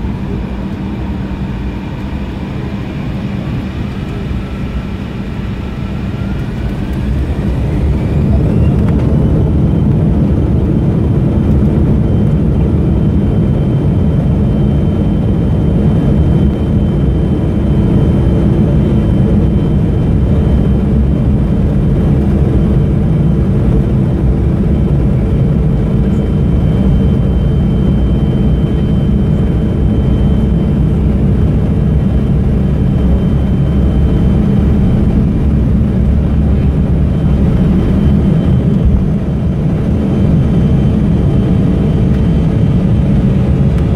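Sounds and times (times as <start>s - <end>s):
faint high engine whine: 0.0s - 43.9s
jet engines low rumble: 0.0s - 43.9s.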